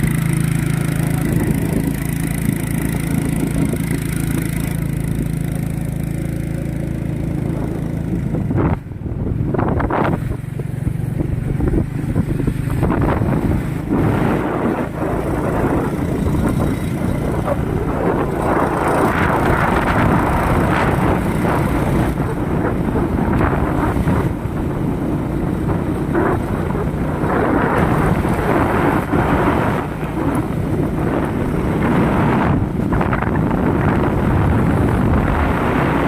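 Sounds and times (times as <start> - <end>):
vehicle running: 0.0 - 36.0
wind buffeting microphone: 0.0 - 36.0.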